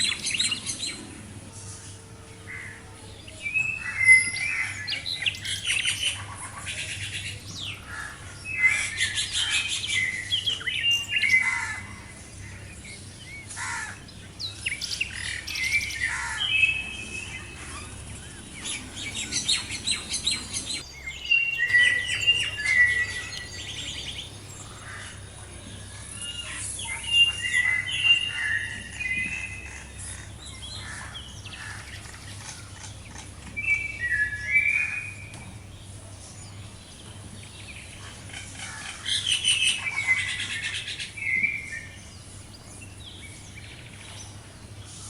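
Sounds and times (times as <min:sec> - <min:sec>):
songbirds chirping and singing: 0:00.0 - 0:45.0.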